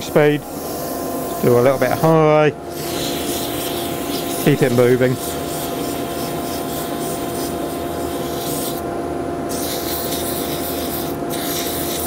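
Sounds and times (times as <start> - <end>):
sandpaper hissing on spinning wood: 0.0 - 8.9, 9.5 - 12.0
lathe and dust extractor hum: 0.0 - 12.0.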